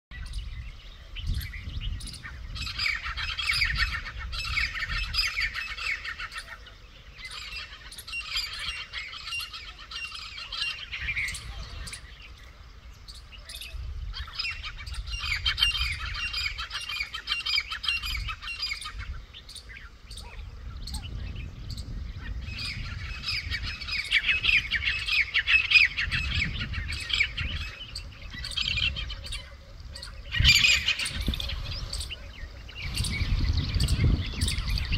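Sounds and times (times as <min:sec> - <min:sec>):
francolins calling harshly: 0:00.2 - 0:34.9.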